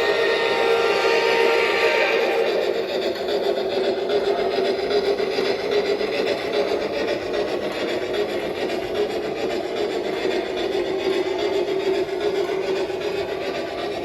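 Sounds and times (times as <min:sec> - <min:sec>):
model train steam chuffing: 0:00.0 - 0:14.0.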